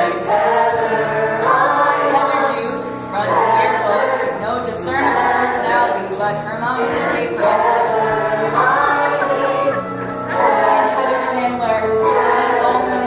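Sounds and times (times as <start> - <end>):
ensemble singing: 0.0 - 13.0.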